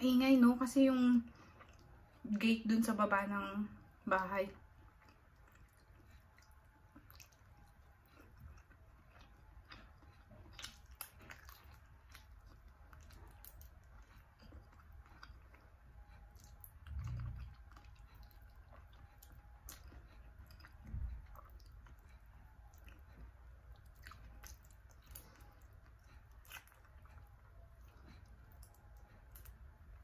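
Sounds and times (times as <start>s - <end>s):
chewing and sucking: 1.3s - 2.2s, 4.8s - 30.0s.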